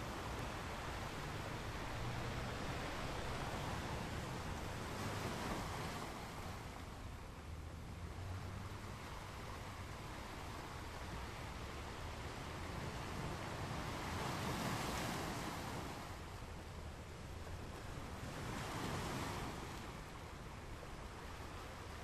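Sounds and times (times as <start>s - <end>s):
ocean waves crashing on shore: 0.0s - 22.0s.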